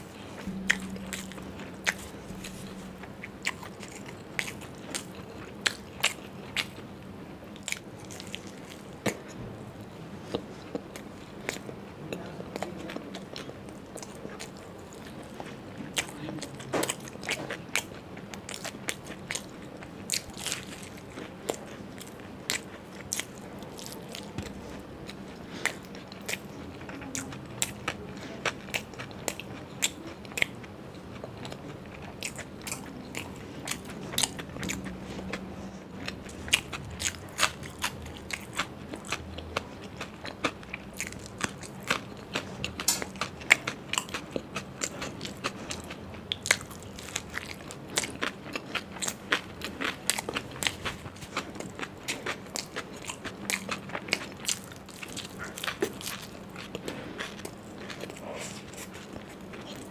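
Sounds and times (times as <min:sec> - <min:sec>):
wet chewing mouth sounds: 0:00.0 - 0:06.9, 0:07.5 - 0:59.9
crisp pastry crunching: 0:10.3 - 0:59.9.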